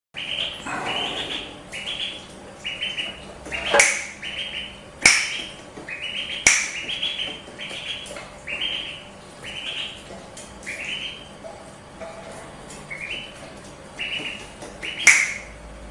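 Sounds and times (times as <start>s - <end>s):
duckling peeping: 0.2s - 15.6s.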